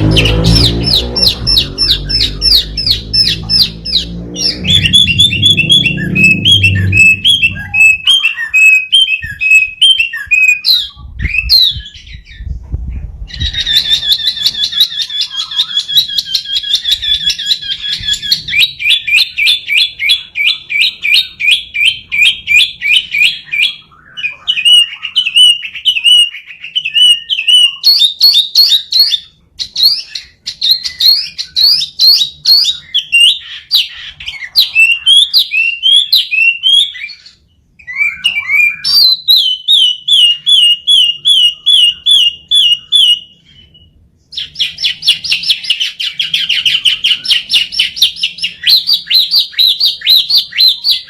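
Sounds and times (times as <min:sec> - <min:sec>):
bird singing whistled notes: 0:00.0 - 0:12.6, 0:13.3 - 0:51.0.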